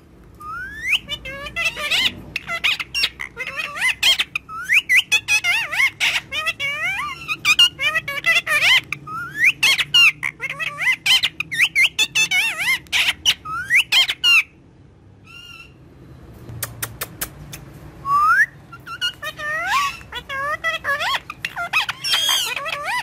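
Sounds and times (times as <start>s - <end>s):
parakeet chattering: 0.4s - 15.8s, 16.6s - 17.7s, 18.6s - 23.0s.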